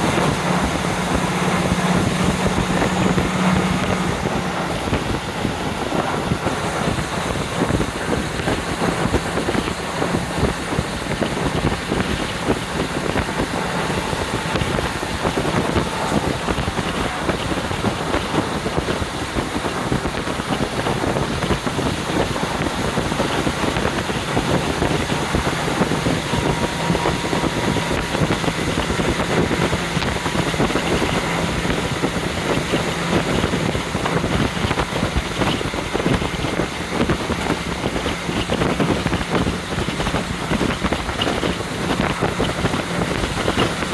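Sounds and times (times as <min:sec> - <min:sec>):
diesel engine humming: 0:00.0 - 0:43.9
wind rushing through window: 0:00.0 - 0:43.9.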